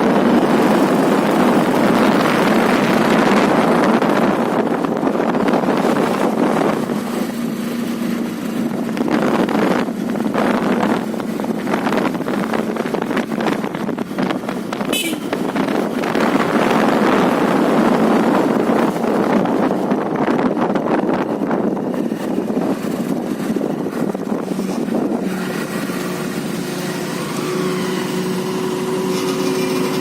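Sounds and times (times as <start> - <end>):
motorcycle engine hum: 0.0 - 30.0
wind rushing over microphone: 0.0 - 30.0.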